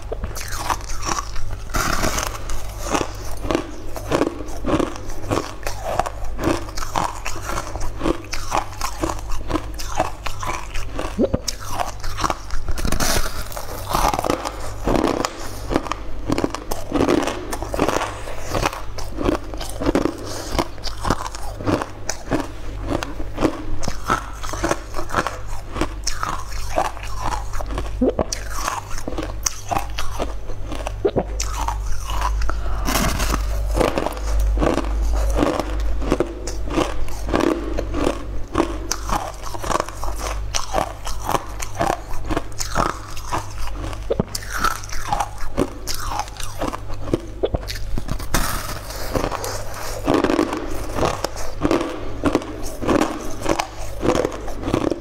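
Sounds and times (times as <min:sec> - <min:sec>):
crisp crunching while chewing: 0:00.0 - 0:55.0.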